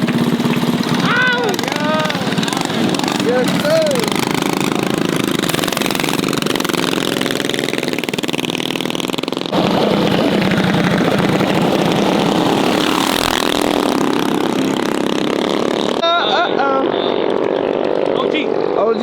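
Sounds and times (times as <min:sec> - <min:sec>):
mini bike engines running: 0:00.0 - 0:19.0.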